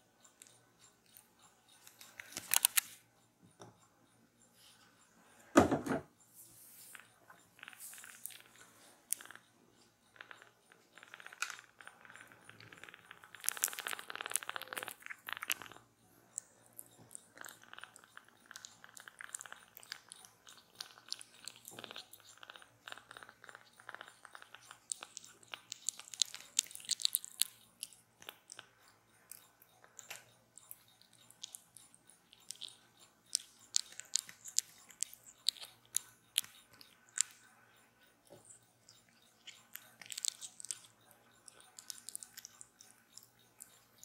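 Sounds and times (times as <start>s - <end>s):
kitten sucking wet clicks: 0.0s - 5.0s, 6.9s - 44.0s.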